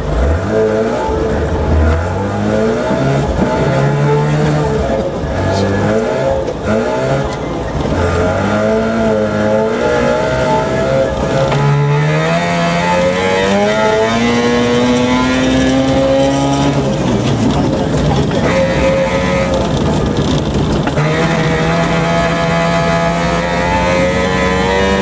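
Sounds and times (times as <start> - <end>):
rotary engine revving: 0.0 - 25.0.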